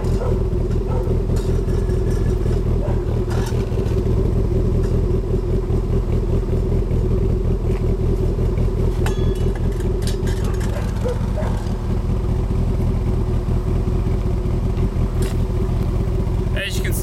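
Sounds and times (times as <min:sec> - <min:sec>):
car engine running steadily: 0:00.0 - 0:17.0.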